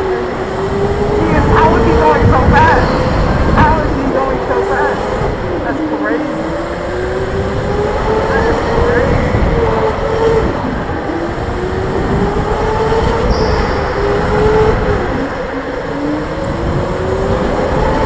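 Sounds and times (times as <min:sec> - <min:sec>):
kart rolling on concrete: 0:00.0 - 0:18.0.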